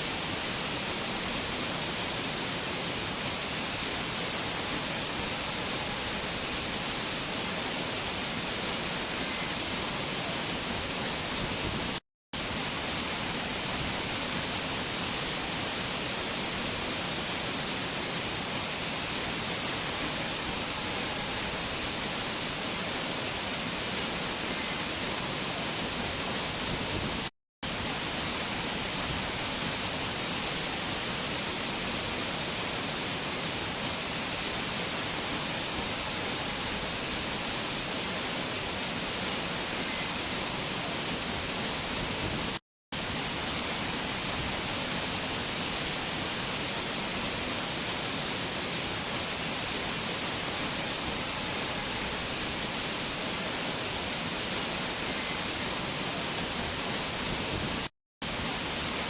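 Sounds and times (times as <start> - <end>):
water pouring down a waterfall: 0.0 - 59.0.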